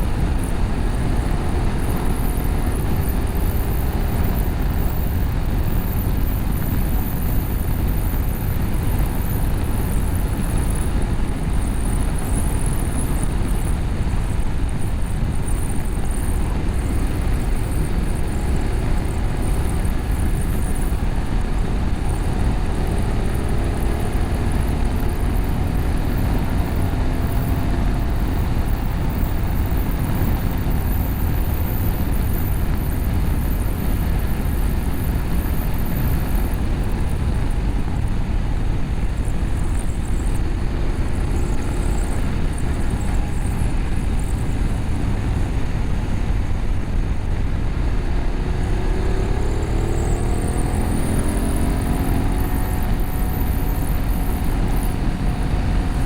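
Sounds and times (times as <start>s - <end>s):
motorcycle engine at speed: 0.0s - 56.0s
wind and road noise: 0.0s - 56.0s.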